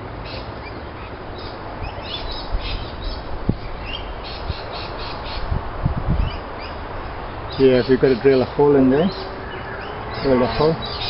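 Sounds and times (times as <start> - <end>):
outdoor background hiss: 0.0 - 11.0
small birds chirping: 0.2 - 11.0.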